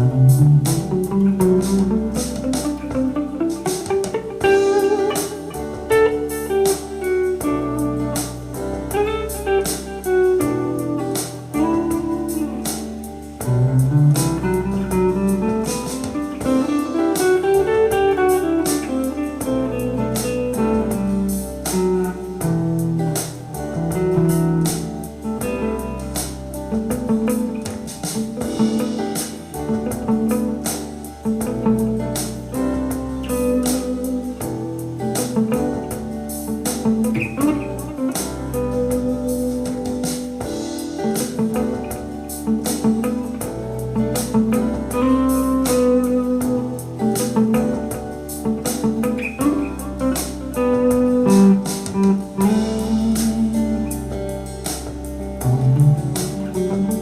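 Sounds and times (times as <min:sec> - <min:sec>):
backing track with drum beat: 0:00.0 - 0:57.0
guitar playing: 0:00.0 - 0:57.0.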